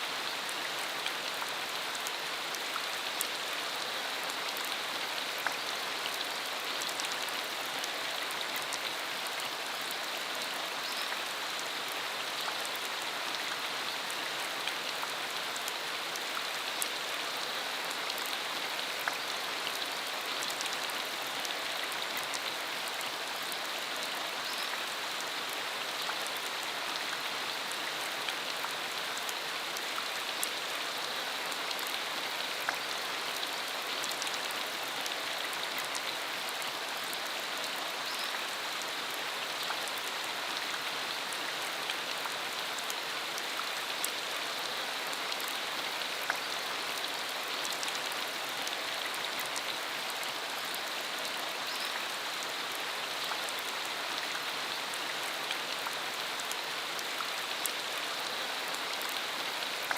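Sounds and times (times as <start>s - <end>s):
steady rain hiss: 0.0s - 59.9s
sharp ticks of raindrops: 0.2s - 59.9s.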